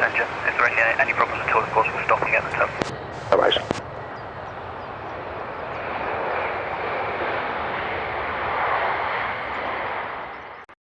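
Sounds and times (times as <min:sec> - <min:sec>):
jet aircraft engine: 0:00.0 - 0:10.7.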